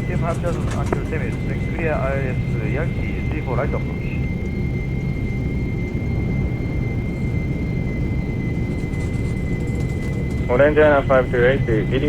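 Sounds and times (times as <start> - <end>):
jet engines rumbling and whining: 0.0 - 12.0.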